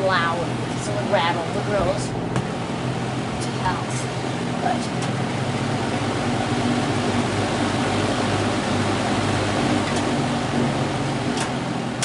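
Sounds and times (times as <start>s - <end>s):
box fan running: 0.0s - 12.0s.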